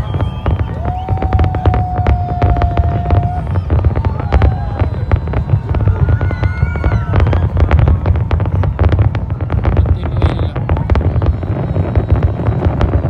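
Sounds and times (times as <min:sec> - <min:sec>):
fireworks crackling bangs: 0:00.0 - 0:13.0
fireworks whistling: 0:00.0 - 0:13.0.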